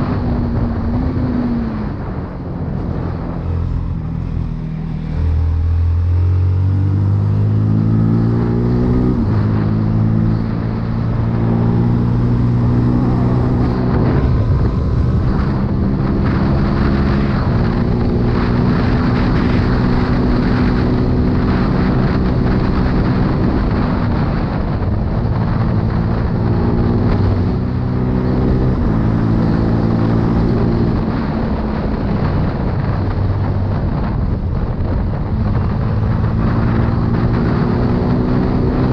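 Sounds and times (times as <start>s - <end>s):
motorcycle engine accelerating: 0.0s - 38.9s
wind rushing over microphone: 0.0s - 38.9s.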